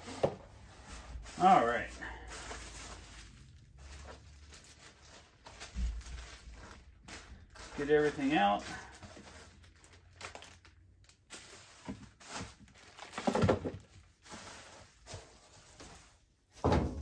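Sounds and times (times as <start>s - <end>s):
bubble wrap crinkling: 0.0s - 16.5s.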